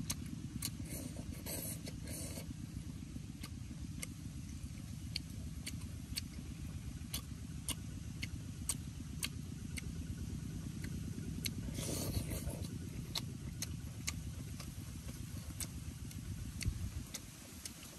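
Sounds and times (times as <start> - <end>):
chewing and lip smacking: 0.0 - 17.9
steady low rumble: 0.0 - 17.9.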